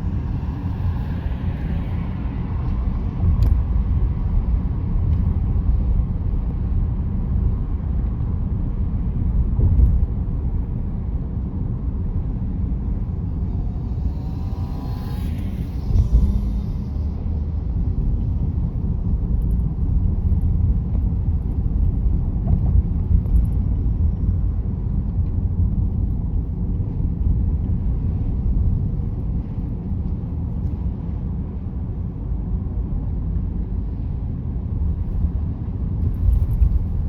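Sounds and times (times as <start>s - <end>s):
road and tyre rumble in car: 0.0s - 37.0s.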